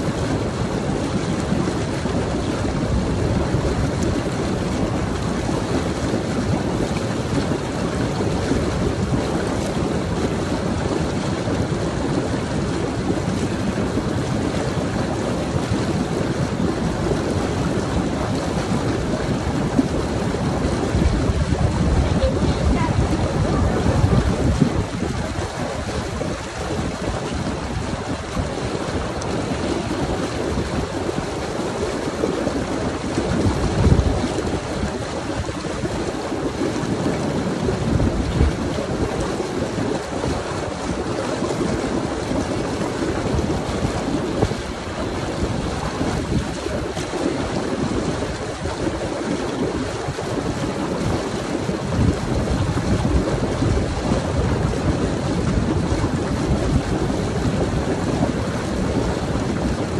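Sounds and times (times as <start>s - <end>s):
hot tub jets churning water: 0.0s - 59.9s
wind buffeting microphone: 0.0s - 59.9s.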